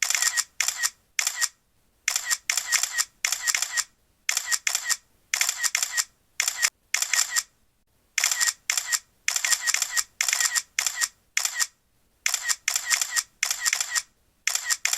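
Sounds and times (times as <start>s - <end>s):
camera shutter clicking: 0.0s - 7.5s, 8.2s - 14.9s.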